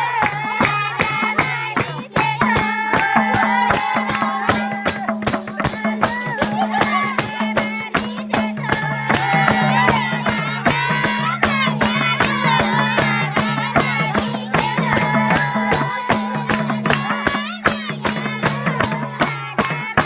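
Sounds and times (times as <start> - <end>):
rattling percussion strokes: 0.0 - 20.0.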